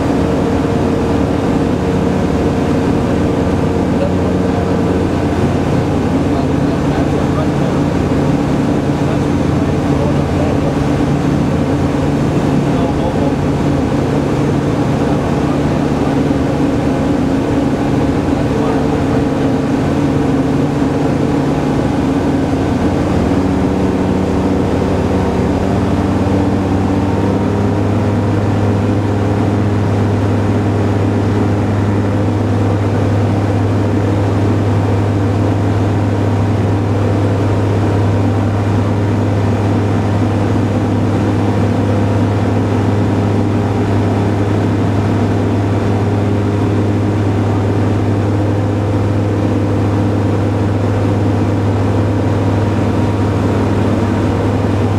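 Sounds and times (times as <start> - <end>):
airplane engine and propeller droning: 0.0 - 54.9.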